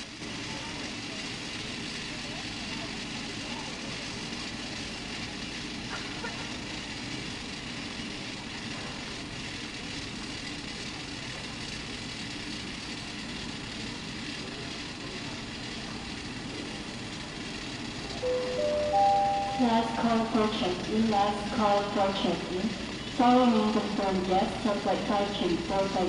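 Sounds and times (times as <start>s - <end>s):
airport machinery drone: 0.0s - 26.0s.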